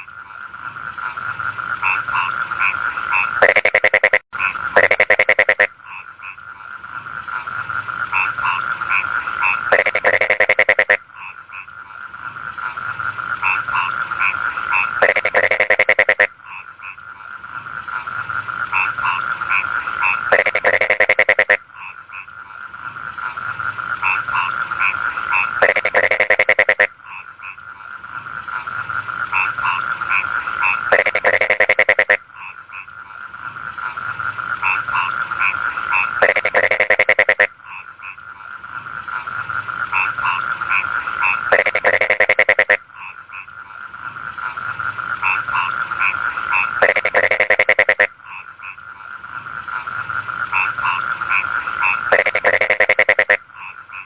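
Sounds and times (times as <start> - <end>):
frog chorus: 0.0 - 54.0
frog rapid croaking call: 0.0 - 54.0.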